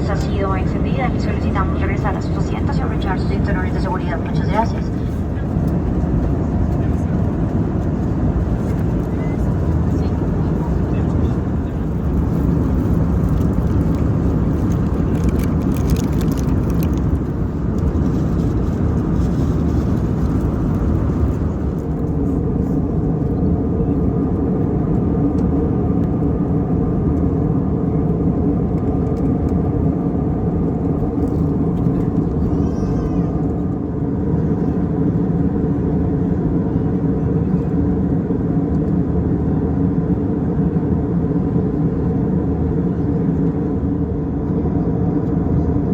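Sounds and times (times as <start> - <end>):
jet engine drone: 0.0 - 45.9.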